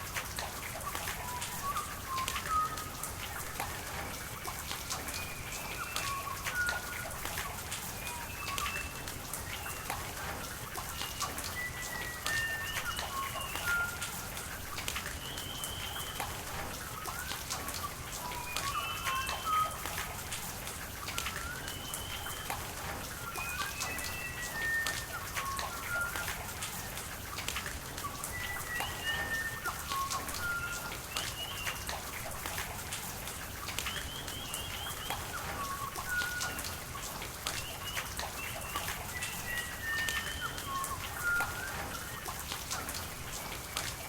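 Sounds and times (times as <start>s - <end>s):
raindrops ticking: 0.0s - 44.0s
steady rain: 0.0s - 44.0s
whistled bird calls: 0.7s - 32.9s, 33.6s - 44.0s.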